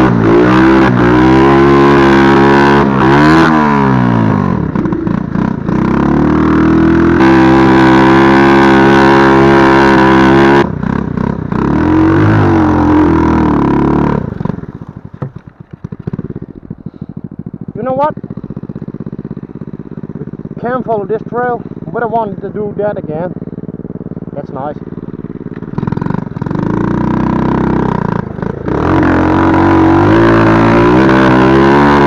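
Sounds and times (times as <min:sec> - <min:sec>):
quad engine revving: 0:00.0 - 0:32.0.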